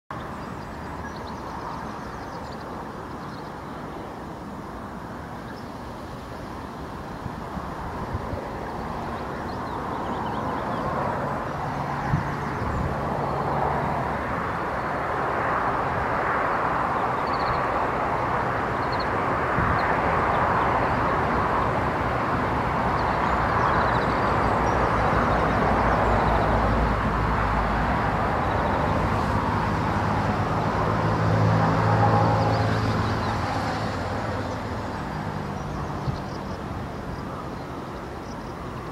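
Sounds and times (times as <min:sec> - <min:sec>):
distant motor vehicle rumble: 0:00.1 - 0:38.9.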